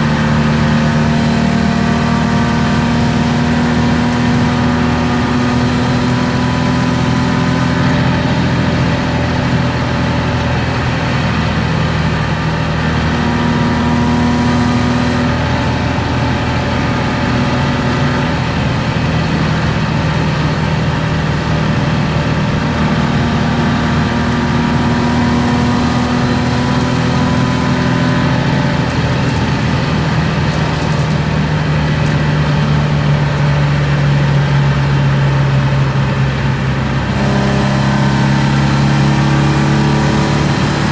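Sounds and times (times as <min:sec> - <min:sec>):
car engine cruising: 0:00.0 - 0:40.9.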